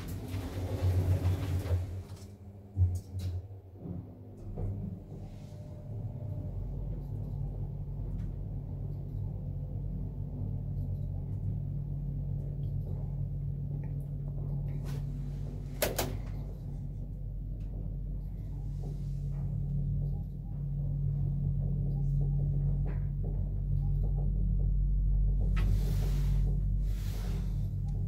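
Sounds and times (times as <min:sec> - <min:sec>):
lift car humming: 0:00.0 - 0:28.0.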